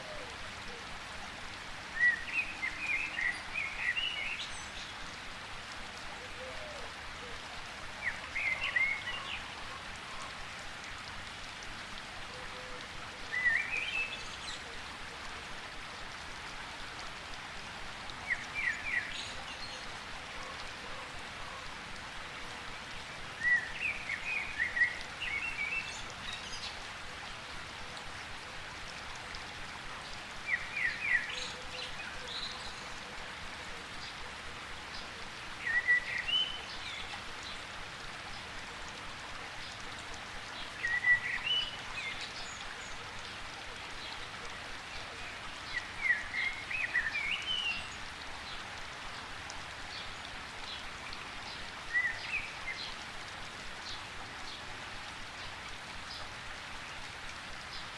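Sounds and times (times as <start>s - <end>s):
rain pattering: 0.0s - 57.9s.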